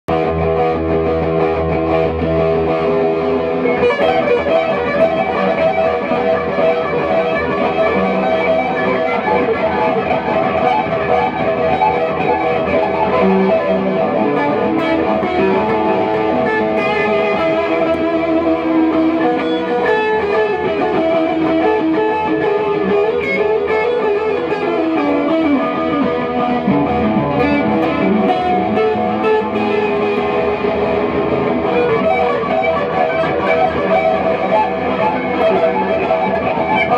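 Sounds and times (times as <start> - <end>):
electric guitar melody: 0.1 - 36.9.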